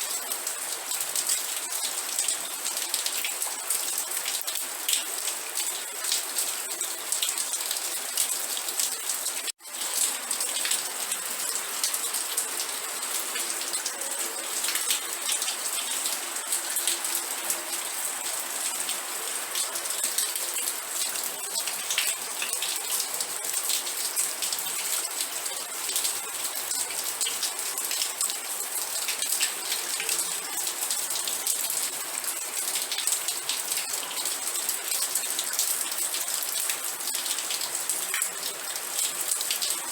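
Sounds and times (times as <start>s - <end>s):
steady rain drops: 0.0s - 39.9s.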